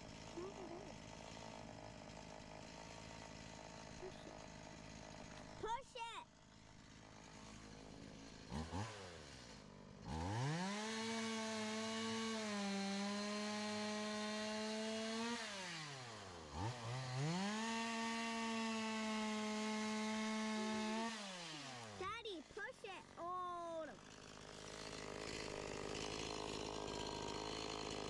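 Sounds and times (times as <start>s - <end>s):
chainsaw cutting tree trunk: 0.0s - 28.0s.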